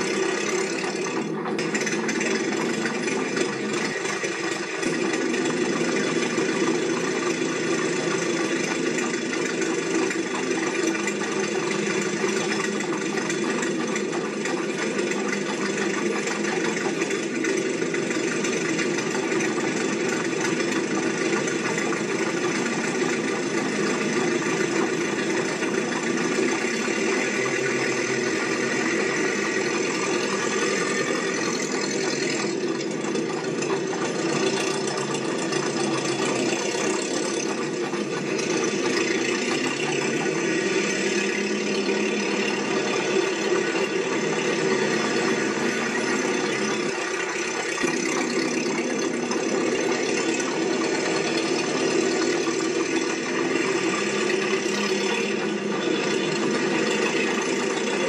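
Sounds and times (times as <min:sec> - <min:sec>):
mechanical engine-like drone: 0:00.0 - 0:58.0.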